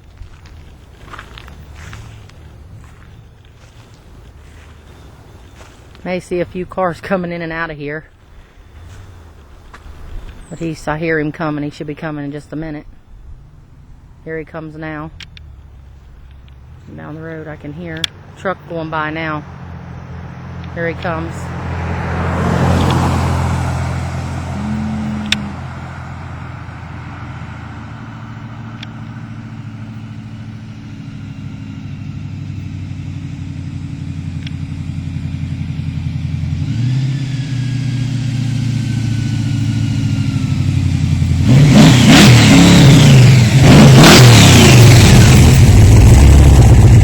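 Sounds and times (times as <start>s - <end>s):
car engine revving: 0.0s - 7.7s, 12.9s - 47.0s.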